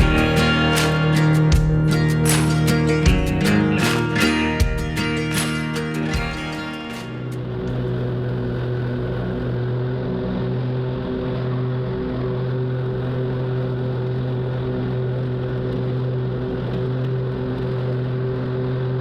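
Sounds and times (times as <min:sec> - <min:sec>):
lawn mower engine humming: 0:00.0 - 0:16.6.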